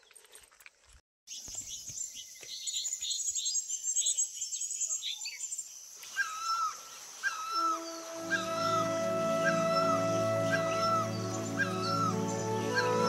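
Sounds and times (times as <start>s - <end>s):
small birds chirping: 1.3s - 13.0s.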